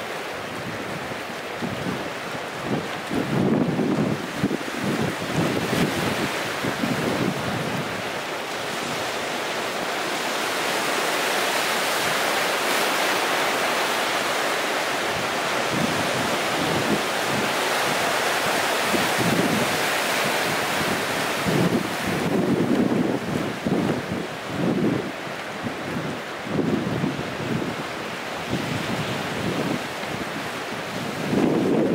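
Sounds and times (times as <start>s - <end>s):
surf washing among rocks: 0.0s - 31.9s
wind buffeting microphone: 0.5s - 9.2s, 15.0s - 31.9s.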